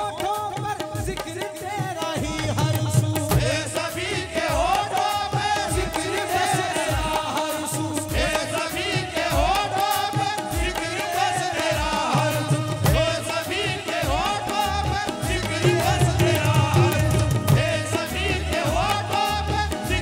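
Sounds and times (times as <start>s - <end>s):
drums keeping a steady beat: 0.0s - 20.0s
keyboard accompaniment: 0.0s - 20.0s.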